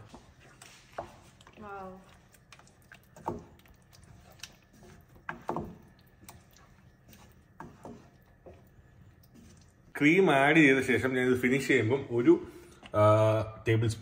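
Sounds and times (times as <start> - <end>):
wooden spatula scraping pot: 0.0 - 11.8.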